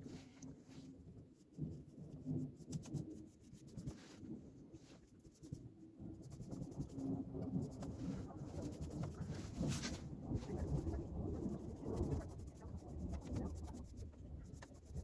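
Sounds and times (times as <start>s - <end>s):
paintbrush scratching on surface: 0.0s - 15.0s.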